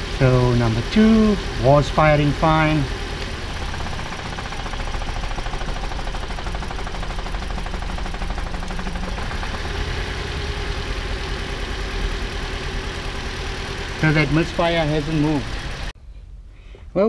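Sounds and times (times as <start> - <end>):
car engine idling with misfire: 0.0 - 16.0.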